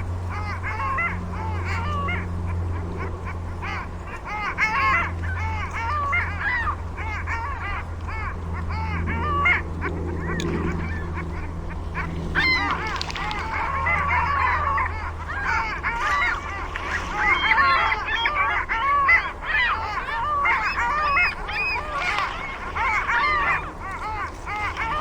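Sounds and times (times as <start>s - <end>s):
steady low hum: 0.0s - 25.0s
waterfowl honking: 0.0s - 25.0s.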